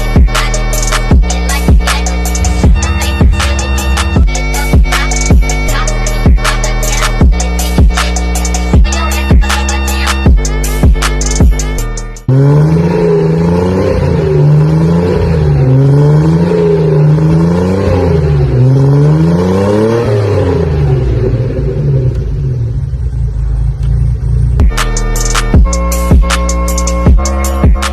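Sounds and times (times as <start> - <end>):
car engine revving and idling: 0.0 - 27.9.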